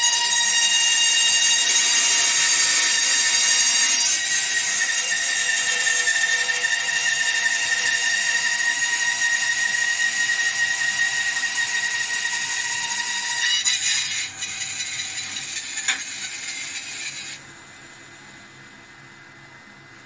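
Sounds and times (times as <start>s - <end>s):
bandsaw cutting wood: 0.0s - 17.4s.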